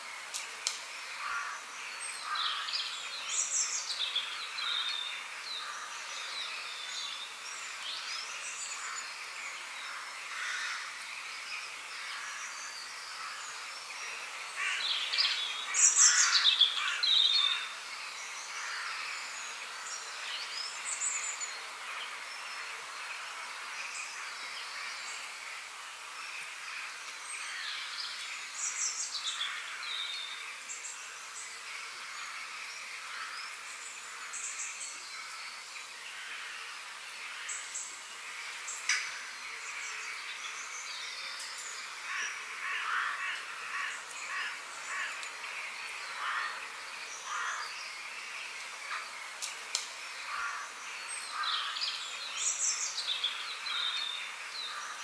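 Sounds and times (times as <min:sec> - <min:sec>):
steady background hiss: 0:00.0 - 0:55.0
birds chirping and warbling: 0:00.1 - 0:55.0.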